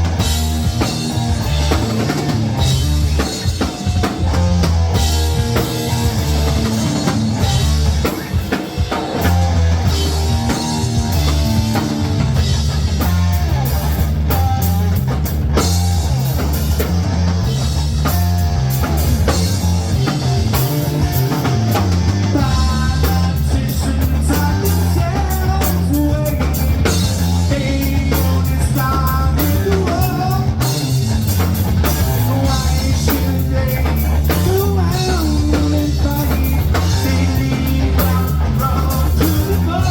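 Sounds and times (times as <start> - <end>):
bass line: 0.0 - 39.9
drum kit beat: 0.0 - 39.9
guitar: 0.0 - 39.9.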